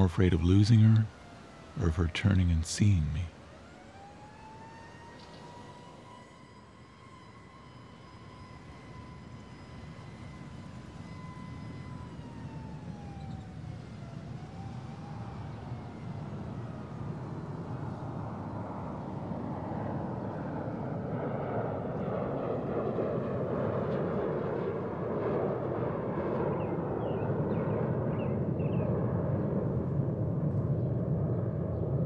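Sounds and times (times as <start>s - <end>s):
low rumbling ambience: 0.0s - 32.0s.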